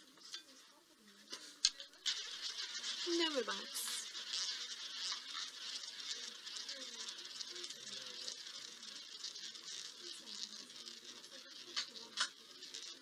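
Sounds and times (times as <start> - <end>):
roulette ball whirring: 1.3 - 13.0.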